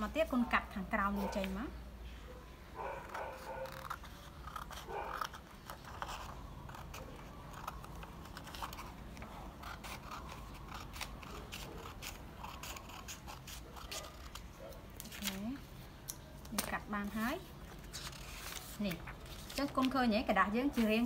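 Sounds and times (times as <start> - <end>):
scissors snipping paper: 3.0 - 20.0.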